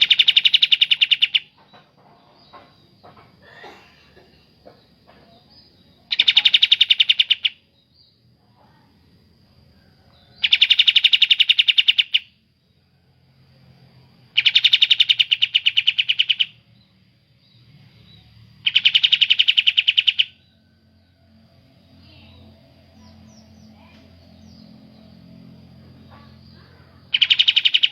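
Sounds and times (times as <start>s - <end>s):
songbird rapid trills: 0.0s - 3.0s, 5.2s - 8.9s, 9.8s - 12.4s, 14.3s - 27.9s.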